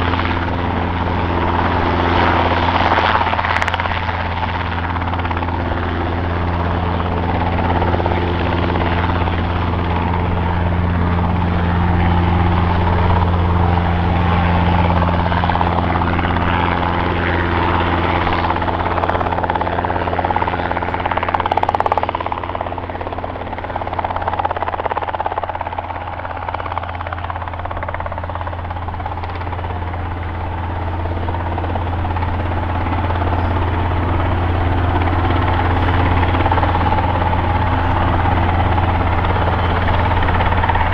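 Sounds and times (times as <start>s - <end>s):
helicopter hovering: 0.0s - 40.9s.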